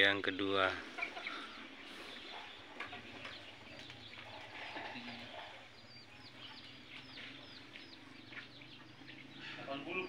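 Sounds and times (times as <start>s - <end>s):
chickens clucking and peeping: 0.0s - 10.0s.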